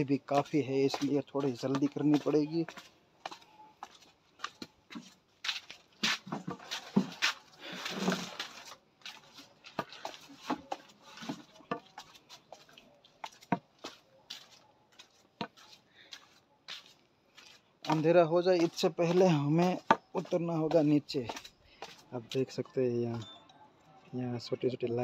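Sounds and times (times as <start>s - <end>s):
footsteps on stone steps: 0.0s - 23.3s.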